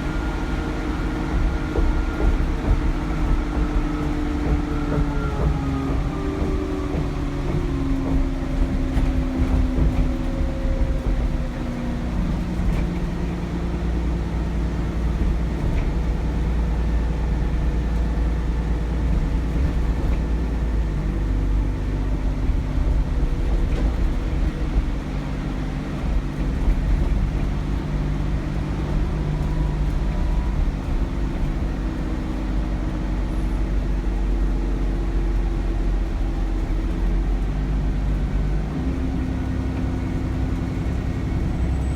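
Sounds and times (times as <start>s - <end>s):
bus diesel engine rumble: 0.0s - 41.9s.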